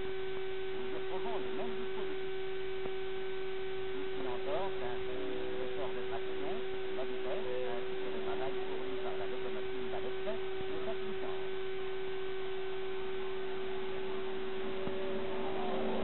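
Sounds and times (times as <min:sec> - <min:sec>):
steady single-pitched hum: 0:00.0 - 0:16.0.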